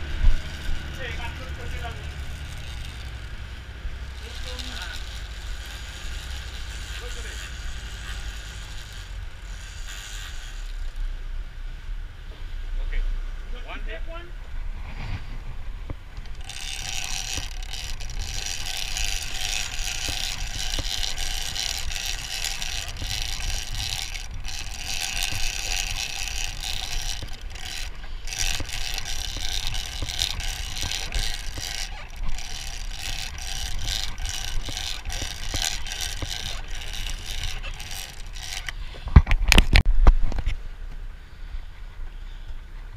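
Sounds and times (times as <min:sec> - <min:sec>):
fishing reel ratcheting clicks: 0:00.0 - 0:11.1, 0:16.2 - 0:39.8
boat engine rumbling: 0:00.0 - 0:39.9.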